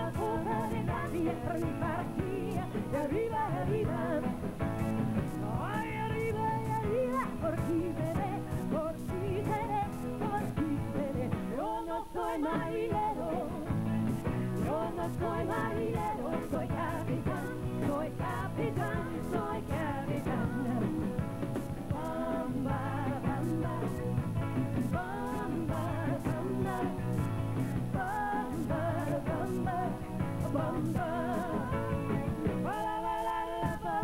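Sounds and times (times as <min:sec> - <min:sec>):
person singing: 0:00.0 - 0:04.5, 0:05.2 - 0:13.8, 0:14.6 - 0:24.2, 0:24.8 - 0:34.0
live rock-pop band playing: 0:00.0 - 0:11.7, 0:12.4 - 0:34.0.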